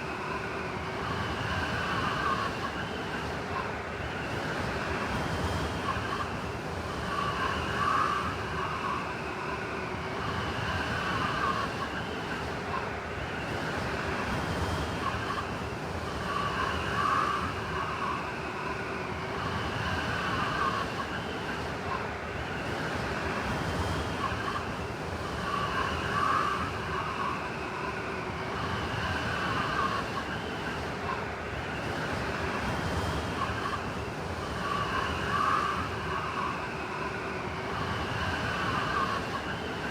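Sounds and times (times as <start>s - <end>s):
blizzard wind whistling: 0.0s - 39.9s.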